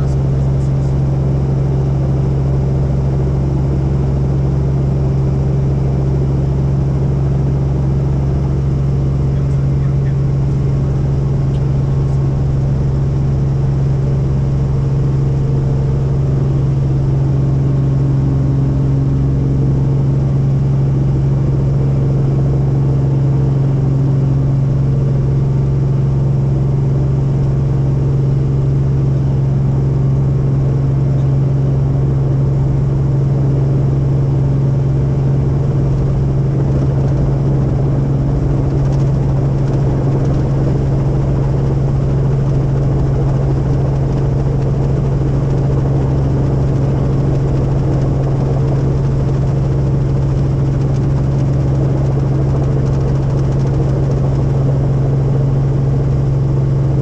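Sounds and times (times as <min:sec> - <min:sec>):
helicopter engine and rotors droning: 0:00.0 - 0:57.0.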